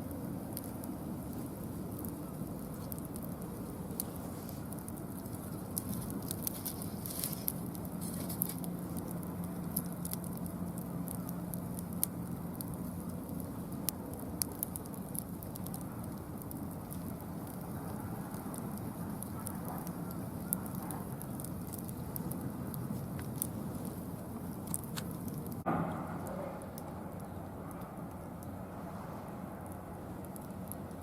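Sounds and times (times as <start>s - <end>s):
low rumble of fire: 0.0s - 31.0s
wood fire crackling and popping: 0.0s - 31.0s.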